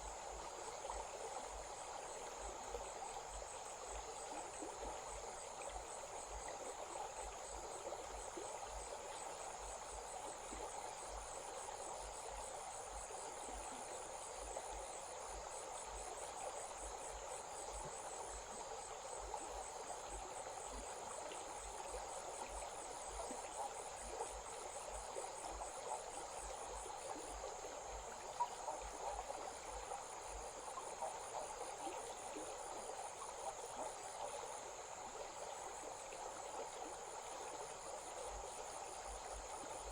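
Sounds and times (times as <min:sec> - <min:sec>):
small stream rushing: 0:00.0 - 0:39.9
insects chirring: 0:02.4 - 0:39.9.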